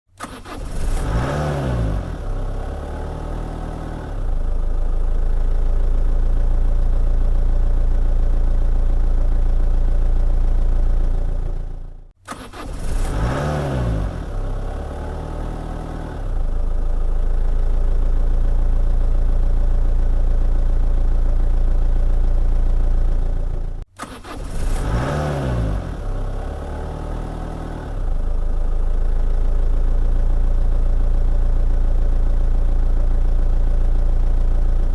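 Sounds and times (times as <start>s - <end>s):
car engine starting and idling: 0.1s - 34.9s.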